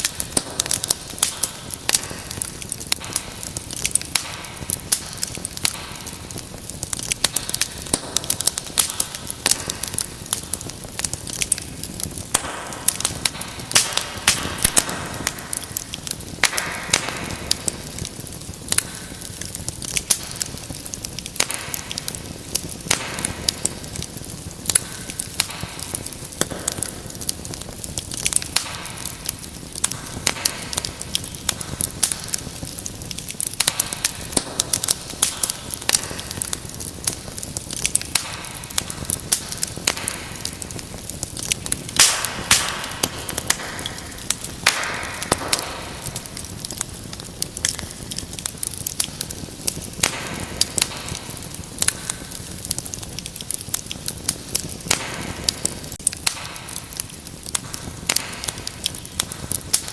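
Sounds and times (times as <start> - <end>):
hiss of flames: 0.0 - 59.9
wood fire crackling: 0.0 - 59.9.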